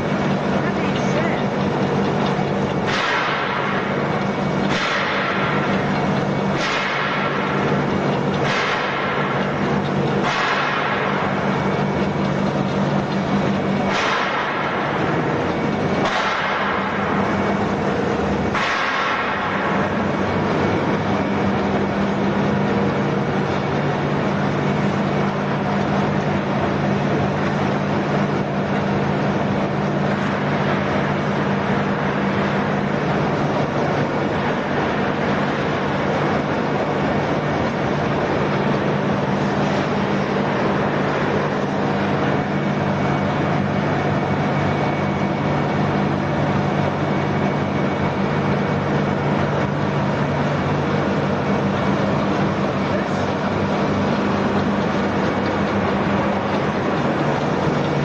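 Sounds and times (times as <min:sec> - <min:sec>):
pellet mill mechanical hum: 0:00.0 - 0:58.0.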